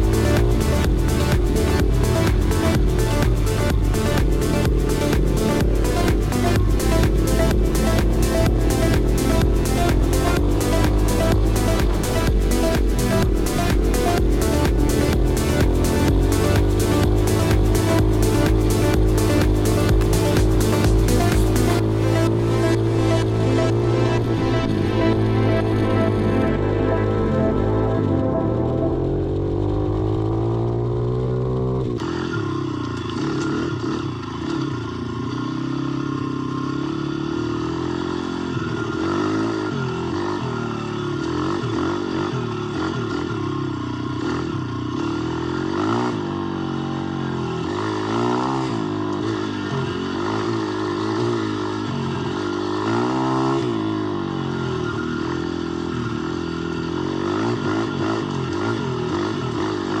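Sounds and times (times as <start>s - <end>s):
motorbike engine revving: 0.0s - 60.0s.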